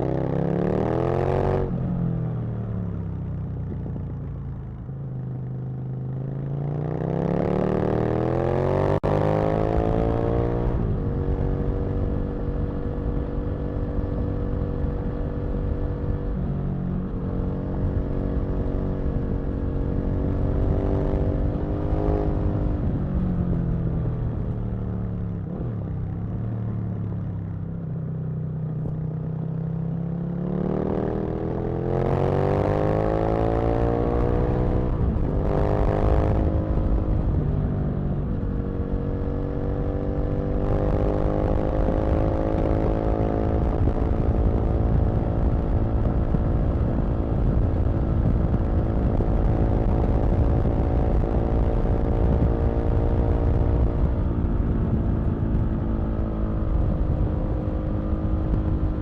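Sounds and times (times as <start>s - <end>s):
motorcycle engine revving: 0.0s - 2.2s, 5.9s - 26.6s, 29.6s - 59.0s.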